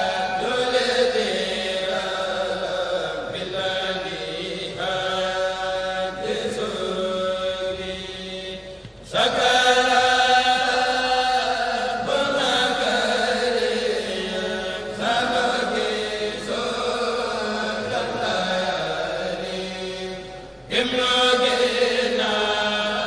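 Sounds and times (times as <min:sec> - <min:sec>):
person chanting devotional poem: 0:00.0 - 0:23.0.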